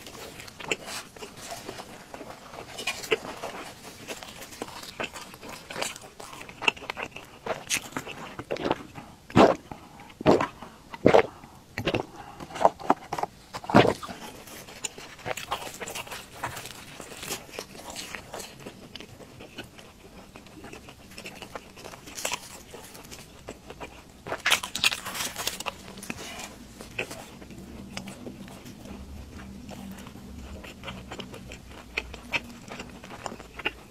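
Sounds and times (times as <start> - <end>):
crunching and chewing fried dough: 0.0 - 33.9.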